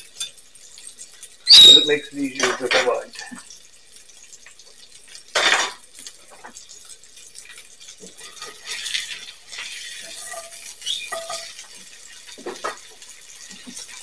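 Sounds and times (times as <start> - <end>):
metal tongs clinking on pan: 0.0 - 3.3, 4.8 - 14.0
steak sizzling in a skillet: 0.0 - 14.0.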